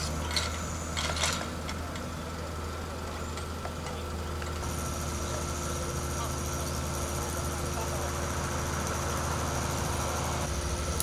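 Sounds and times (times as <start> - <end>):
heavy truck engine running: 0.0 - 11.0.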